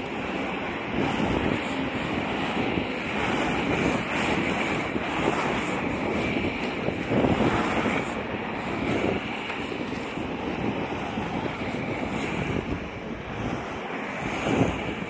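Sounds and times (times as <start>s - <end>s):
skate wheels rolling on pavement: 0.0s - 15.0s
wind buffeting microphone: 0.0s - 15.0s.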